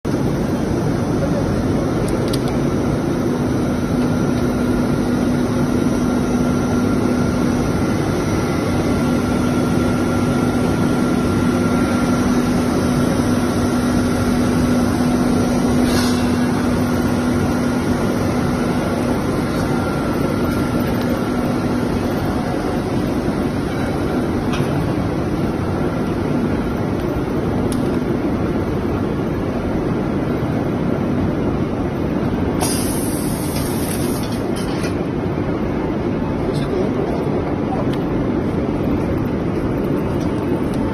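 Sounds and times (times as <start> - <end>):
extrusion machine humming: 0.1 - 40.9.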